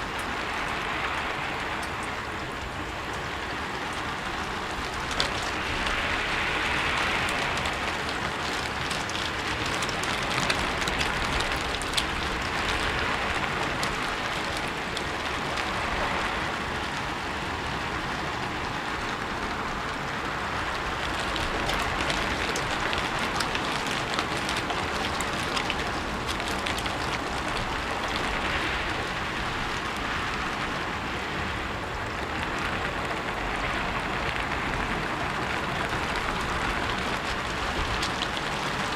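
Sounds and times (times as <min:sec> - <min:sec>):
rain on a rooftop: 0:00.0 - 0:38.9.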